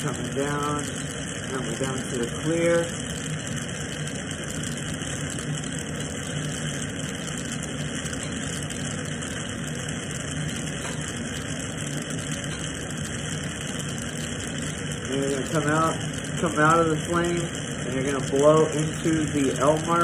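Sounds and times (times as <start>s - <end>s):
torch flame rushing: 0.0s - 20.0s.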